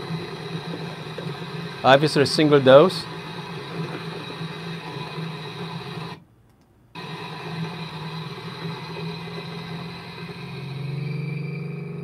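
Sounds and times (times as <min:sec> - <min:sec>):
coffee grinder motor humming: 0:00.0 - 0:06.2, 0:07.0 - 0:12.0.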